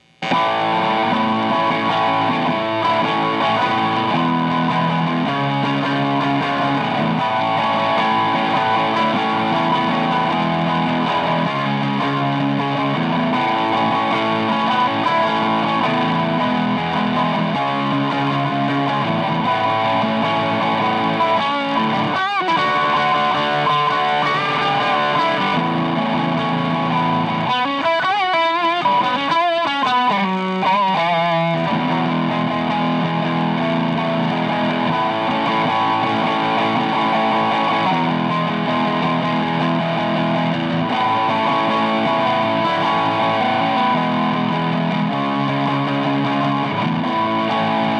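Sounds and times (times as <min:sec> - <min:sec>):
bent wavering guitar notes: 0:00.0 - 0:47.9
overdriven electric guitar chords: 0:00.0 - 0:47.9.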